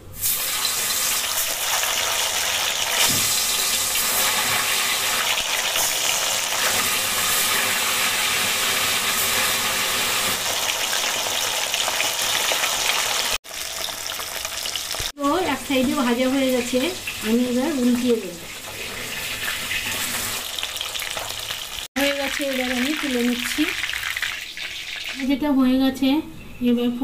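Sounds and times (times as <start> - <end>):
fish frying in hot oil: 0.2 - 25.3.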